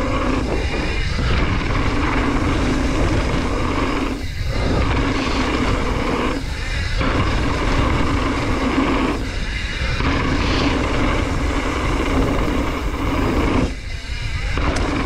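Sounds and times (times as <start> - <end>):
mountain bike trail rumble: 0.0 - 15.0
wind rushing on microphone: 0.0 - 15.0.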